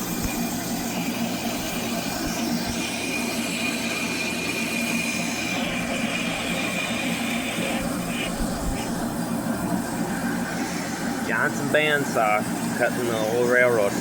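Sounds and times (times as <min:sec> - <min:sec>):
band saw motor hum: 0:00.0 - 0:14.0.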